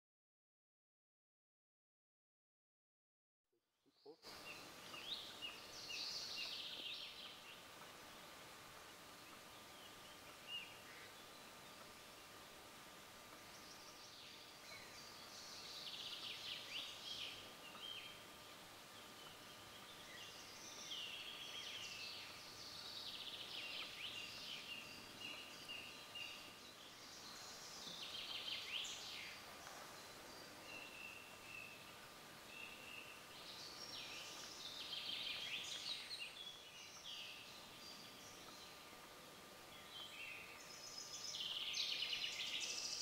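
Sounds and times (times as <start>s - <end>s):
songbirds singing faintly: 3.8s - 43.0s.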